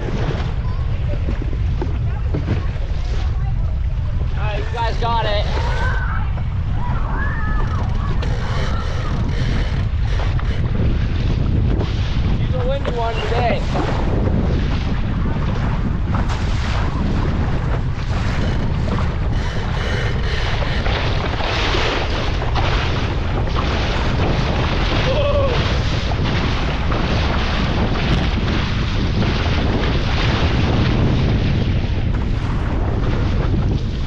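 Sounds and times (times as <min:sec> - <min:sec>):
water rushing and splashing: 0:00.0 - 0:34.0
wind buffeting microphone: 0:00.0 - 0:34.0.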